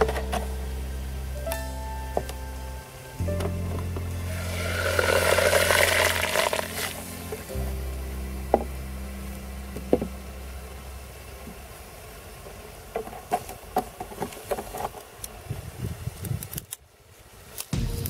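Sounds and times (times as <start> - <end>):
faint steady noise: 0.0 - 17.8.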